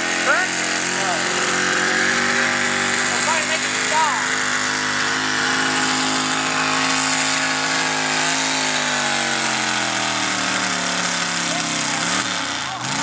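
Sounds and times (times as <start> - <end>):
pulling tractor engine under load: 0.0 - 13.0.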